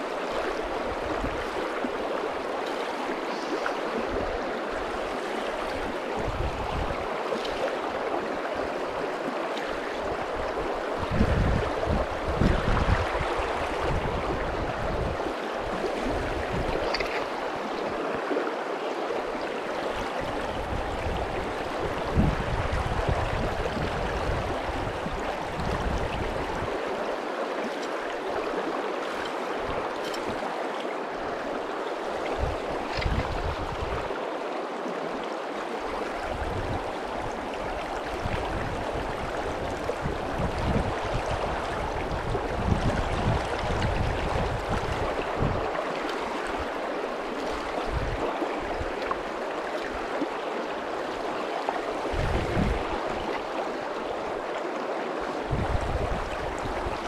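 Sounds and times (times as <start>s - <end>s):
river water rushing over stones: 0.0s - 57.0s.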